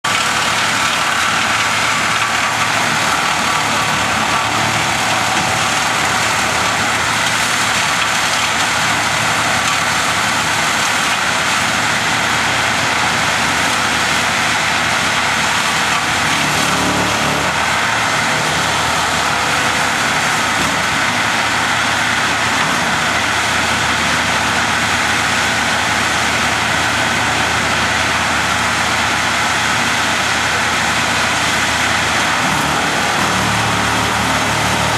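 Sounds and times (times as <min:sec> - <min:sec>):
heavy machinery engine running: 0:00.0 - 0:34.9.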